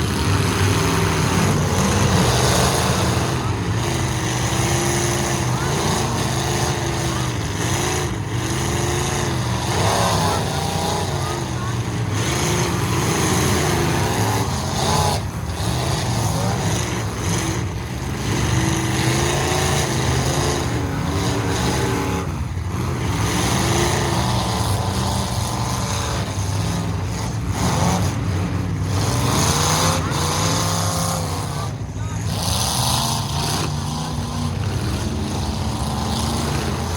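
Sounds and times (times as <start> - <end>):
truck engines revving: 0.0 - 36.9.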